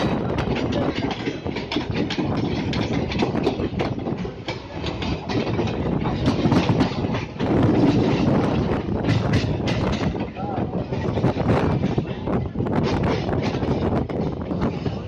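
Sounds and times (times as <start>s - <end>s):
train running rumble: 0.0s - 15.0s
wheels clicking over rail joints: 0.0s - 15.0s.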